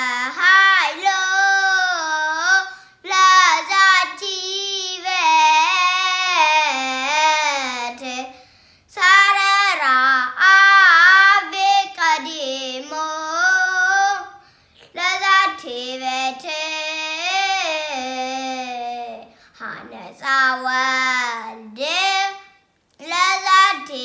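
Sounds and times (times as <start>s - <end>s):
boy chanting a hymn: 0.0s - 24.0s.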